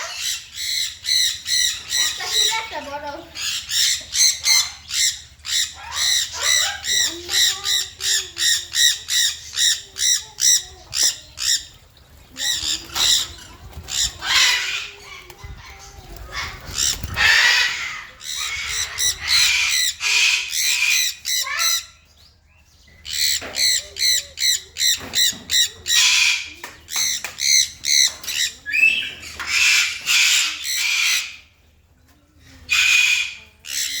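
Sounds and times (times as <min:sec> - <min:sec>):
parrots squawking: 0:00.0 - 0:22.0, 0:23.0 - 0:31.5, 0:32.6 - 0:34.0.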